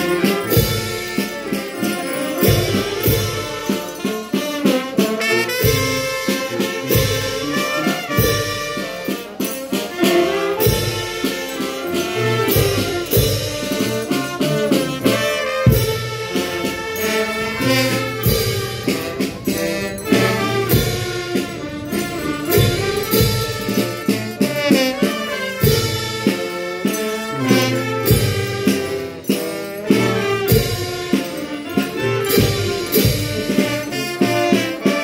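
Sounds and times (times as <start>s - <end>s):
brass band playing: 0.0s - 35.0s
heavy drum beat: 0.0s - 35.0s.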